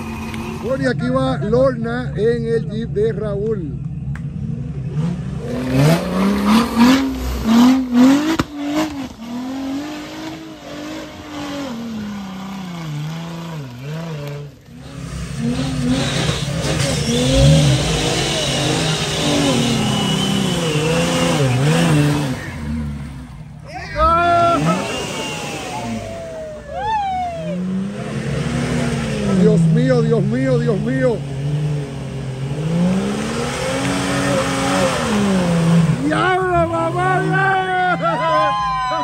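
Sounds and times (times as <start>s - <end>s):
engine revving: 4.1s - 38.1s.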